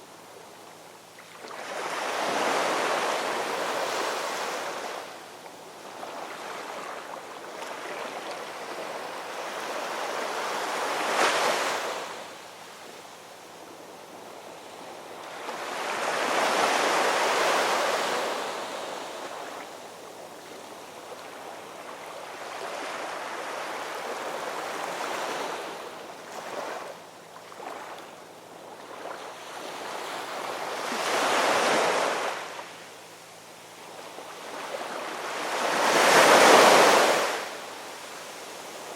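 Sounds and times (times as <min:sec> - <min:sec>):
ocean waves breaking on shore: 0:01.2 - 0:05.2, 0:05.8 - 0:12.4, 0:14.4 - 0:32.8, 0:33.8 - 0:38.9.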